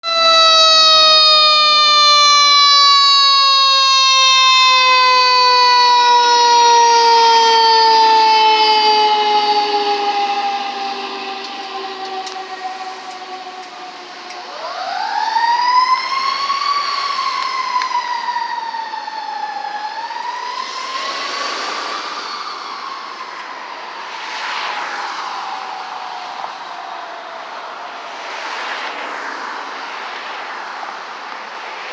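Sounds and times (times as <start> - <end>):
fire truck siren winding down: 0.0 - 29.0.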